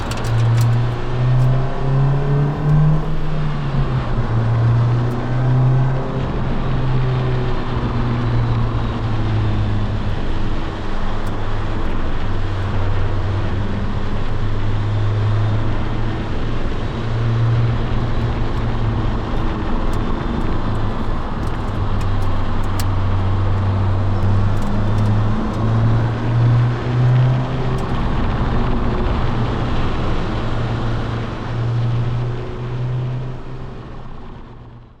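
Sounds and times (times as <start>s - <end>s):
car engine accelerating: 0.0s - 35.0s
road noise: 0.0s - 35.0s.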